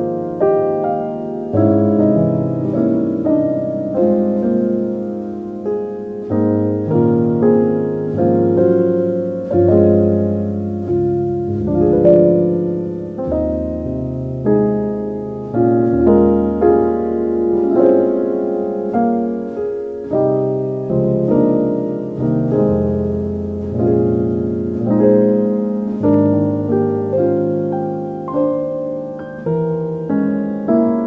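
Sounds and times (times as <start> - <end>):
gentle solo piano: 0.0 - 31.0.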